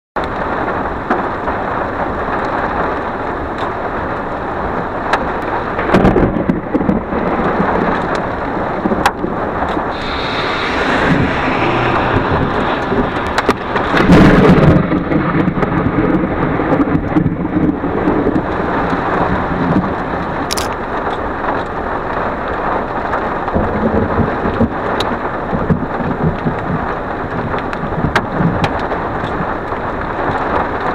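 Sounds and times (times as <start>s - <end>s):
steady rain: 0.2s - 30.9s
thunder crack and rumble: 0.2s - 30.9s.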